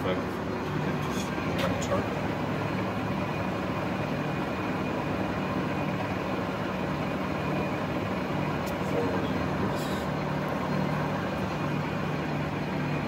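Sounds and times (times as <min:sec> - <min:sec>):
machinery droning with low hum: 0:00.0 - 0:13.0.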